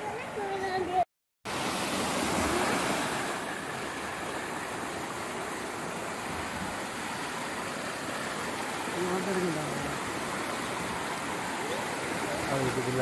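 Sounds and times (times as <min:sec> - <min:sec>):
water rushing over concrete edge: 0:01.5 - 0:13.0.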